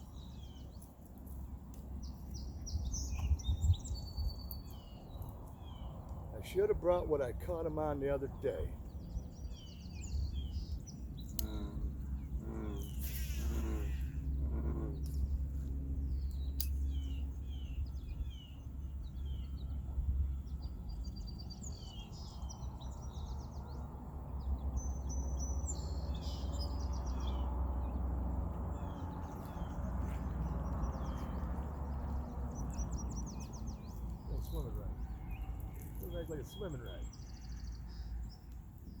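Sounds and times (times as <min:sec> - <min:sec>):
low outdoor rumble: 0:00.0 - 0:39.0
small birds chirping: 0:00.0 - 0:39.0.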